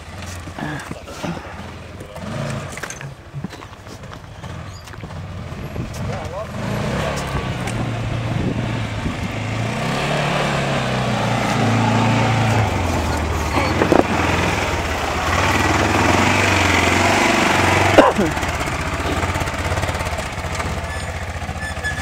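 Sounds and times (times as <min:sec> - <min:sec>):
vehicle engine running at low speed: 0:00.0 - 0:22.0.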